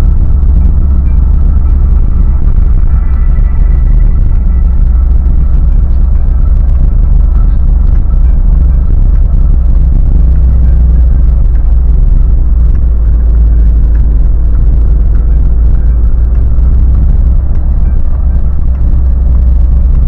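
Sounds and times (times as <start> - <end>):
car engine low rumble: 0.0 - 20.0.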